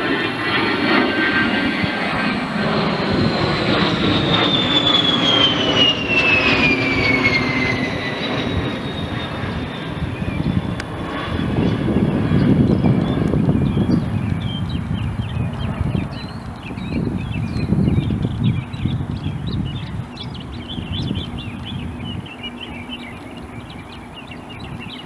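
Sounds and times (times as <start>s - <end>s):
aircraft engine rumble and whine: 0.0s - 25.0s.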